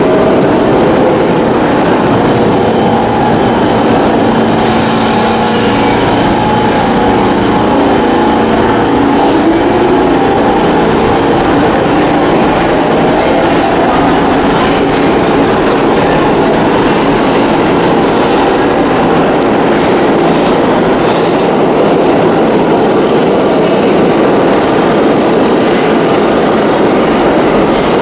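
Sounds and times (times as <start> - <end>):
subway train rumble and clatter: 0.0 - 28.0.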